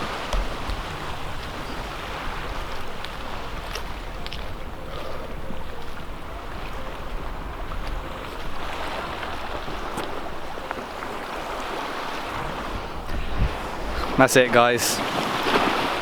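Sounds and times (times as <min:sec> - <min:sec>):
surf on rocky shore: 0:00.0 - 0:16.0
wind on microphone: 0:00.0 - 0:16.0.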